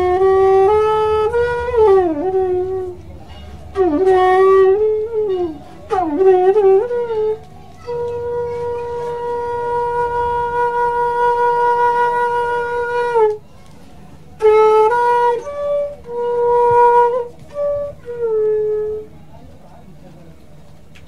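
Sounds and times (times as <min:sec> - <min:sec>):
solo flute melody: 0:00.0 - 0:19.6.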